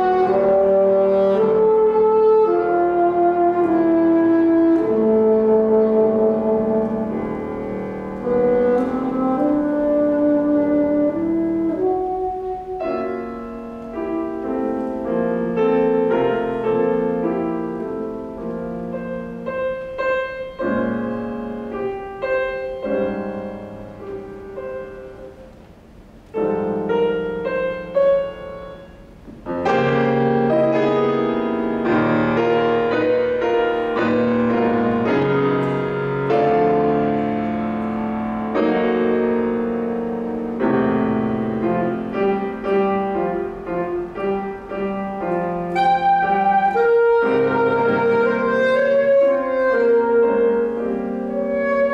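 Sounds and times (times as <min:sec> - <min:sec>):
classical piano: 0:00.0 - 0:51.9.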